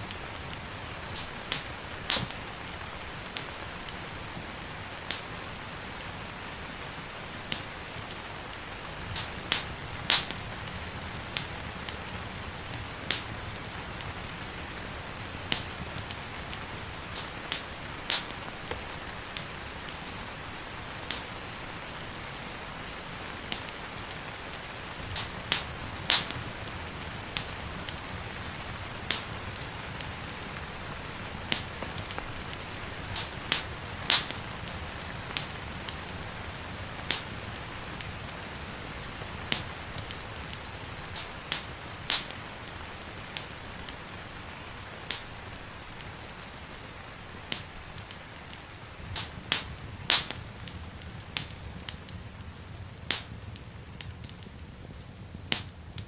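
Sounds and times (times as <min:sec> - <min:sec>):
gentle rain: 0:00.0 - 0:56.0
wood fire crackling: 0:00.0 - 0:56.0.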